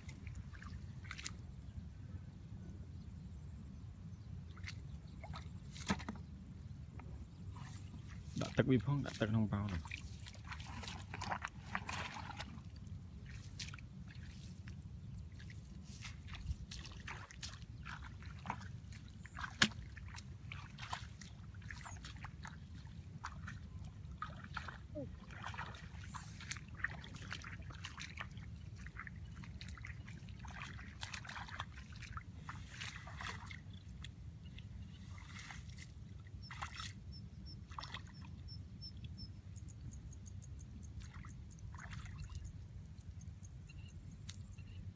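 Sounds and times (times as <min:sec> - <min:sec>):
water sloshing and splashing: 0:00.0 - 0:01.6, 0:04.5 - 0:39.3, 0:40.9 - 0:43.4.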